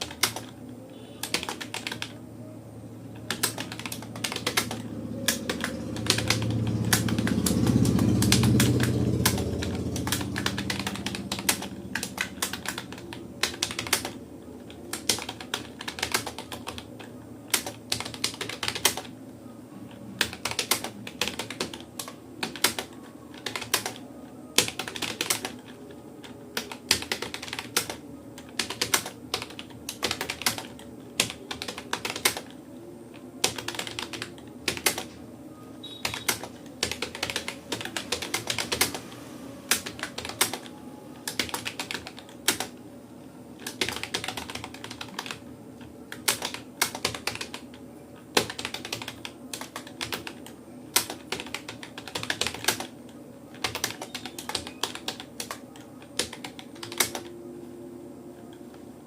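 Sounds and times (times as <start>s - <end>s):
keyboard typing clicks: 0.0s - 2.2s, 3.1s - 19.1s, 20.2s - 24.0s, 24.6s - 32.6s, 33.4s - 35.2s, 35.8s - 42.8s, 43.6s - 47.8s, 48.4s - 57.4s.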